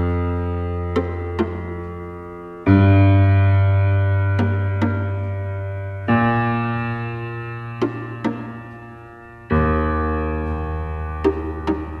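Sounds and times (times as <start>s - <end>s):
slow keyboard chords: 0.0s - 12.0s.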